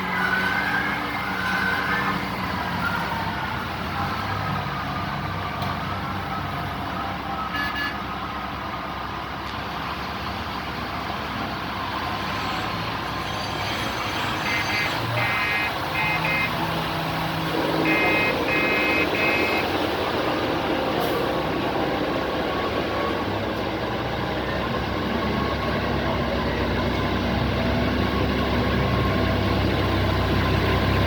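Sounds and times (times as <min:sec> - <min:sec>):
diesel truck engine humming: 0:00.0 - 0:31.0.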